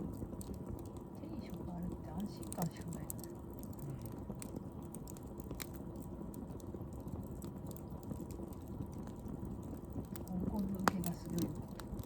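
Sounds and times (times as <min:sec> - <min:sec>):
low steady background noise: 0:00.0 - 0:12.0
wood fire crackling: 0:00.0 - 0:12.0.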